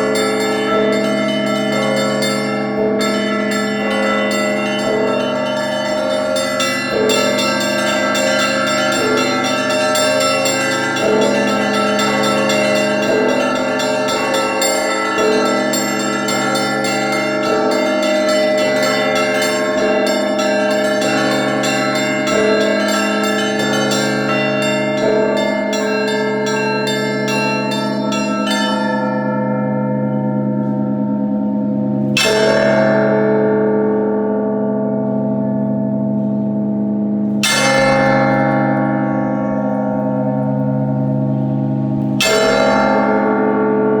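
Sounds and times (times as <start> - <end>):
fast peal of small bells: 0.0 - 33.6, 35.2 - 44.0
large bells ringing: 0.0 - 44.0.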